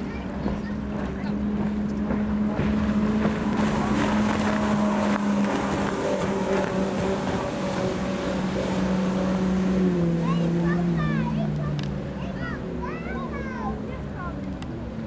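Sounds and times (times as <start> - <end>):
outboard engine high drone: 0.0 - 15.0.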